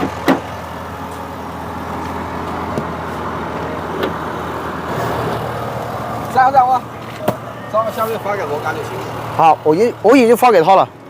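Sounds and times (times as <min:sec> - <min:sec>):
suv engine idling: 0:00.0 - 0:11.0.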